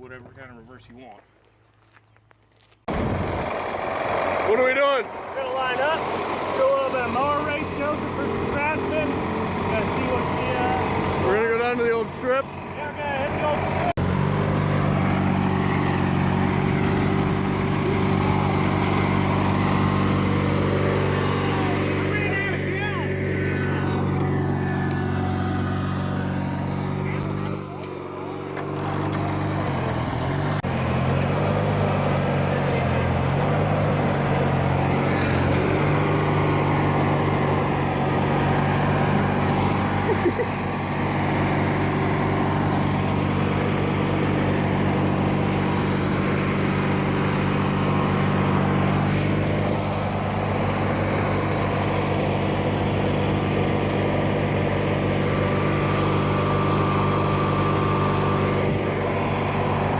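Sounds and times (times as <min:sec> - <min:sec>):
lawn tractor engine running: 0:02.9 - 0:59.9.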